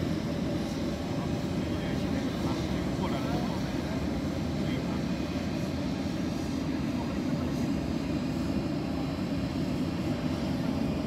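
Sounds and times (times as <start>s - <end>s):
airport ground equipment: 0.0s - 11.0s
jet aircraft rumble: 0.0s - 11.0s.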